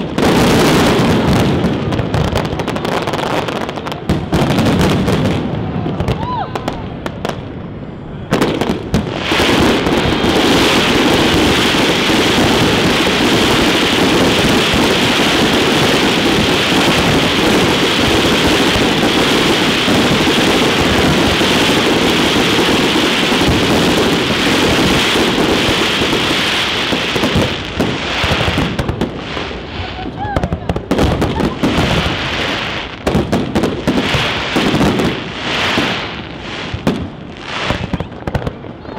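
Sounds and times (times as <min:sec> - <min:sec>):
fireworks bursting and crackling: 0:00.0 - 0:38.9.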